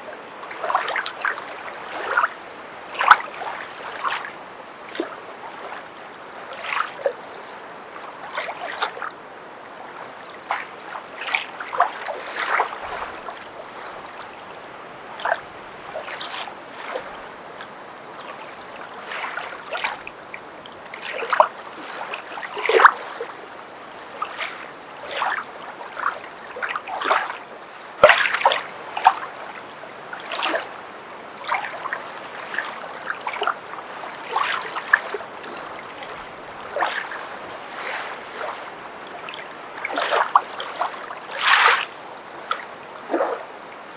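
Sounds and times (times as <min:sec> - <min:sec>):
footsteps wading through water: 0:00.0 - 0:07.3, 0:07.9 - 0:09.2, 0:09.8 - 0:43.9.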